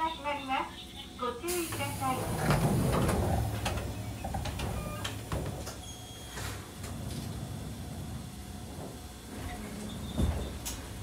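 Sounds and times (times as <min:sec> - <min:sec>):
low train hum: 0:00.0 - 0:11.0
sliding train door closing: 0:01.5 - 0:11.0.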